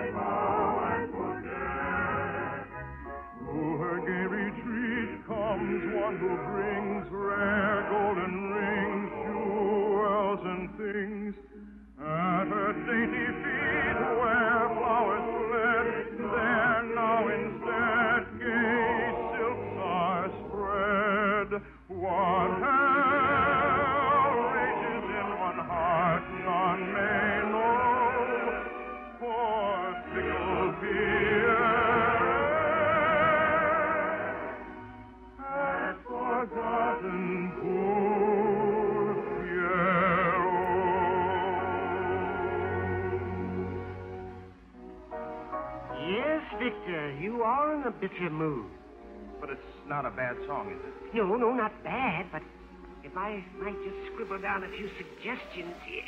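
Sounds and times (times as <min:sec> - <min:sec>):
operatic singing with vibrato: 0:00.0 - 0:56.0.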